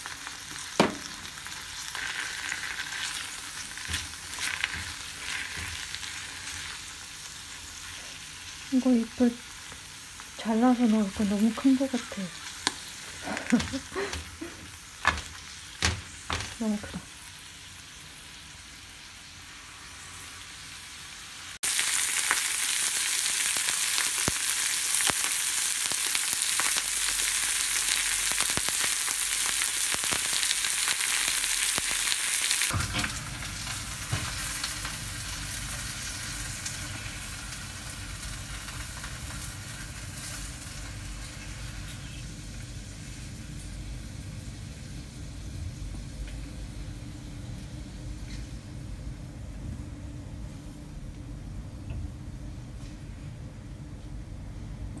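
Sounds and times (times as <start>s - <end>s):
food sizzling in a pan: 0.0s - 48.8s.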